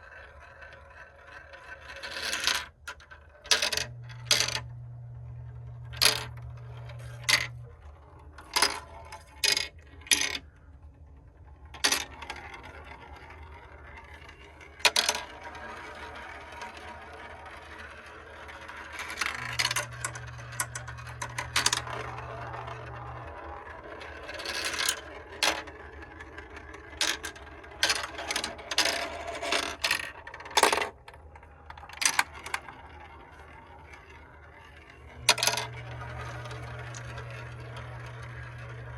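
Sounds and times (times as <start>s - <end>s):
marbles rolling on plastic track: 0.0s - 38.9s
marbles clicking on track: 0.8s - 10.7s, 11.3s - 38.9s
faint low hum: 3.2s - 38.9s.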